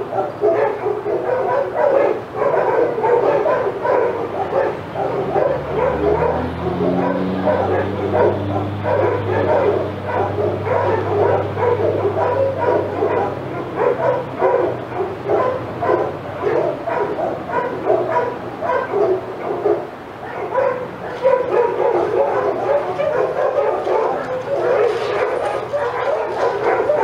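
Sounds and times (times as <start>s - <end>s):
several dogs barking: 0.0s - 27.0s.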